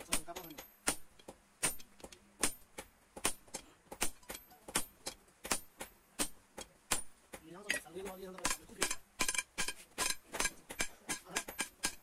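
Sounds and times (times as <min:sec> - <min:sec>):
hammer striking hot metal: 0:00.0 - 0:12.0.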